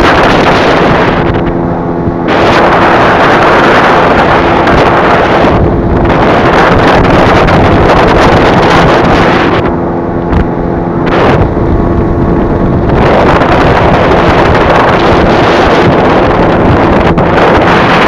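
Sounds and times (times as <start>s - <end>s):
low pitched hum: 0.0s - 18.0s
wind buffeting microphone: 0.0s - 18.0s.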